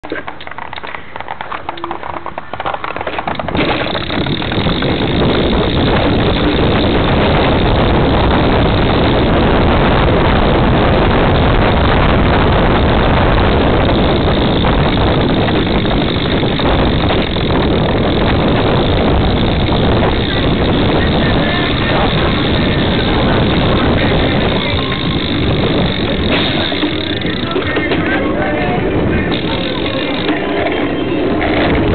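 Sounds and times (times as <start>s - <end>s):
bike tyre and frame rush: 0.0s - 31.9s.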